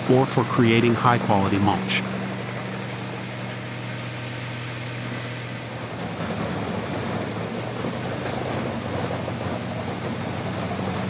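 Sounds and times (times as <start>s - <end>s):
diesel engine of grinder: 0.0s - 11.0s.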